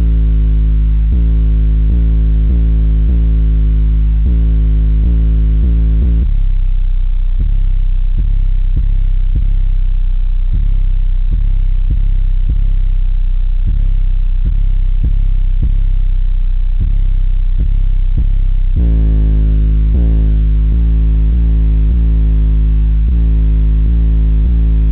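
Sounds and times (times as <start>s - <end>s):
bass-heavy song on car subwoofers: 0.0s - 24.9s.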